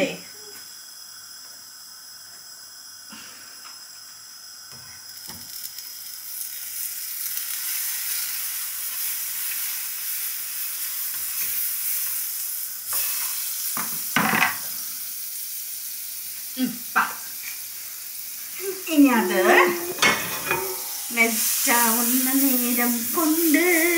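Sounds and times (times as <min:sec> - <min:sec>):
butter sizzling in frying pan: 0:04.1 - 0:23.9.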